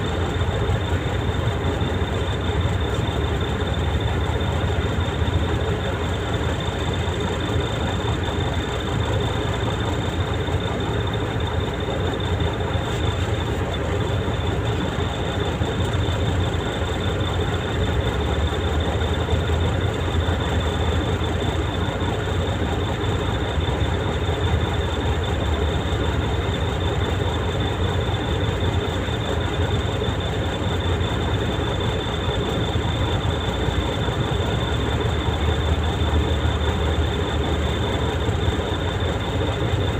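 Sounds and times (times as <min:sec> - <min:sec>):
road noise: 0:00.0 - 0:39.9
truck engine rumbling: 0:00.0 - 0:39.9.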